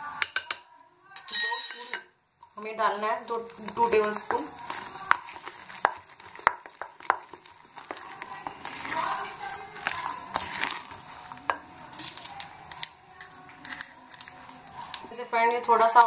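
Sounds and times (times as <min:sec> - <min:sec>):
spatula stirring wet batter: 0:02.4 - 0:16.0.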